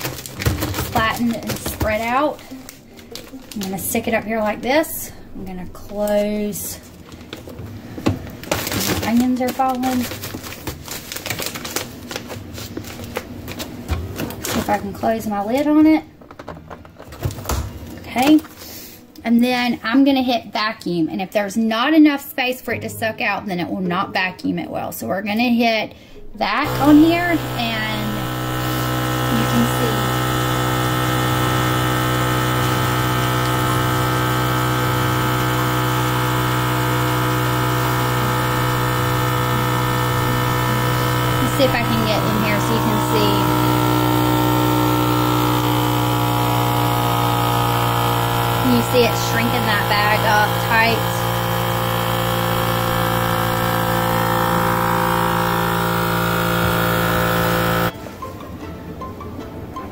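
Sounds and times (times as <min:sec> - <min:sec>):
vacuum pump humming: 0:00.0 - 0:18.6, 0:26.6 - 0:58.0.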